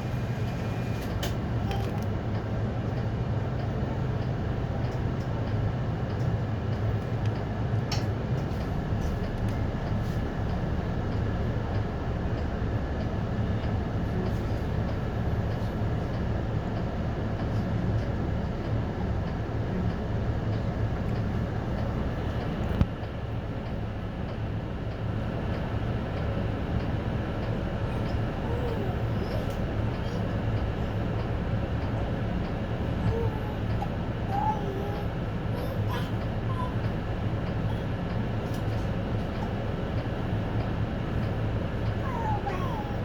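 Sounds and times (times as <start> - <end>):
bus engine hum: 0.0 - 43.0
road noise: 0.0 - 43.0.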